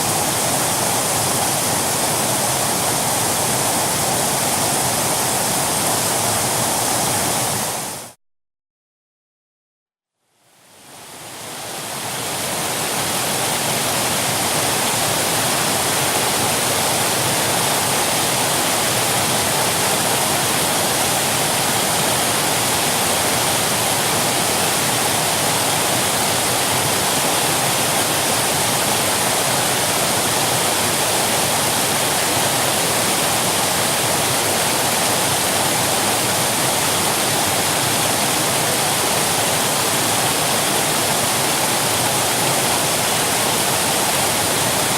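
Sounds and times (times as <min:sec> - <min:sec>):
waterfall rushing: 0:00.0 - 0:08.2, 0:10.9 - 0:44.9.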